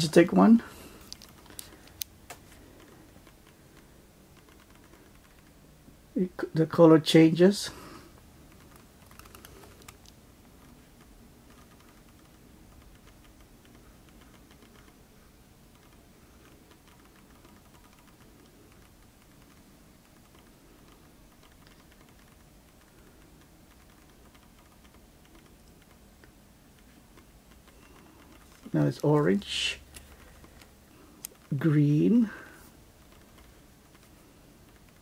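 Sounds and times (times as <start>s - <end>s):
keyboard typing: 1.0s - 5.6s, 8.4s - 35.0s.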